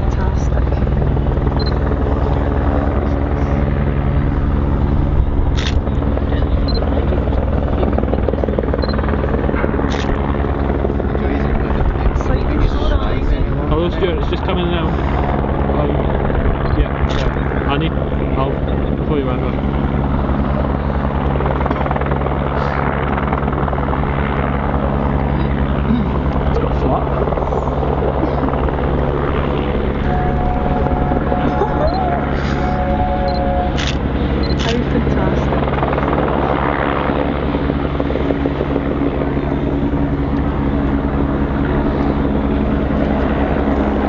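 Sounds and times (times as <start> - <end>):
helicopter rotor beat: 0.0 - 44.0
pulsing mechanical drone: 0.0 - 44.0.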